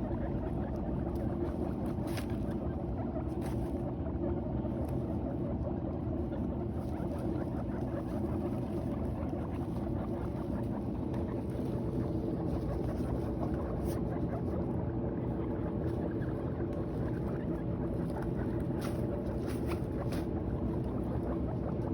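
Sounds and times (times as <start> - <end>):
guinea pigs chewing hay: 0.0 - 21.9
steady low rumble: 0.0 - 21.9.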